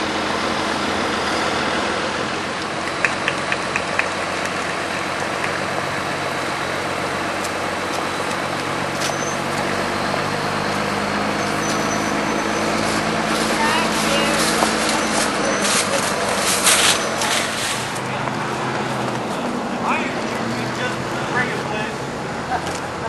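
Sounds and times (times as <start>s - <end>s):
street noise: 0.0s - 23.0s
vehicle engine running: 0.0s - 23.0s.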